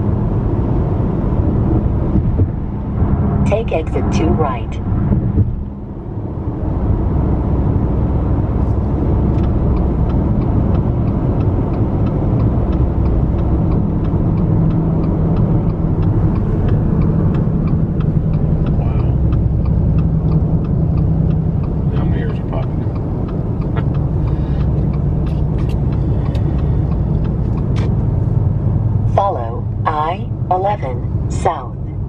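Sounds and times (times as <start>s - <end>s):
road and engine noise in car: 0.0s - 32.0s
turn signal ticking: 0.0s - 32.0s.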